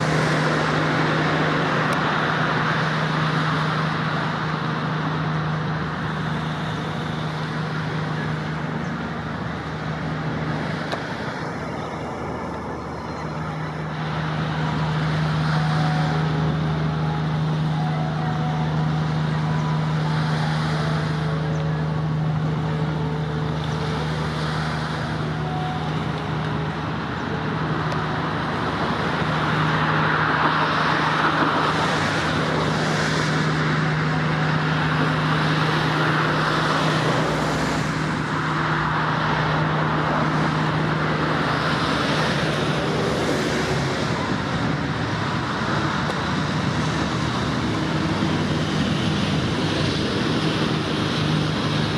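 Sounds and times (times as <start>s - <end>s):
low hum: 0.0s - 51.9s
road traffic: 0.0s - 51.9s.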